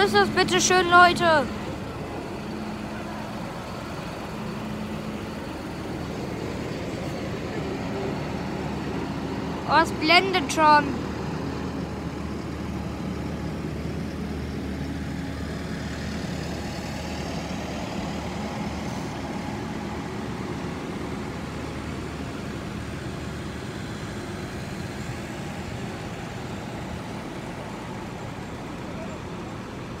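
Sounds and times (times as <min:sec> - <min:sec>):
tractor diesel engines droning: 0:00.0 - 0:30.0.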